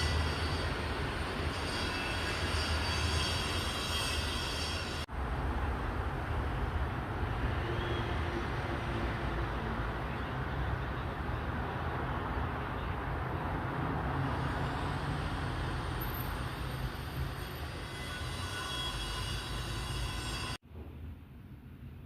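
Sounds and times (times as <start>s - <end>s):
low rumbling traffic noise: 0.0s - 22.0s.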